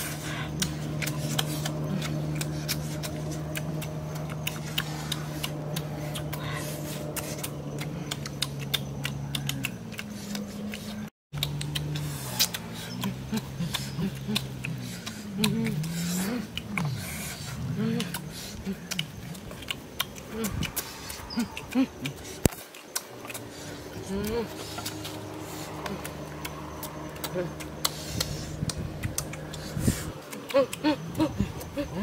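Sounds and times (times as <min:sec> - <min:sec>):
clicks and crackles of eating fish: 0:00.0 - 0:32.0
low wavering hum: 0:00.0 - 0:32.0.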